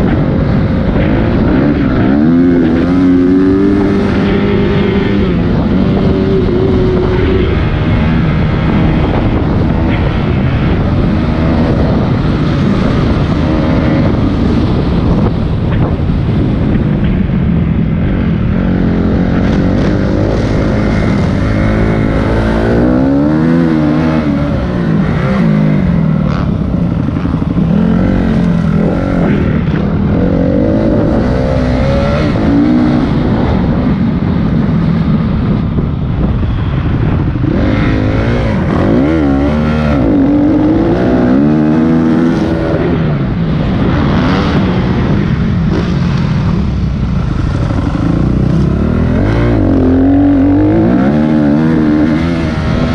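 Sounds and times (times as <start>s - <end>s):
dirt bike engine revving: 0.0s - 15.3s, 18.1s - 33.8s, 36.8s - 52.9s.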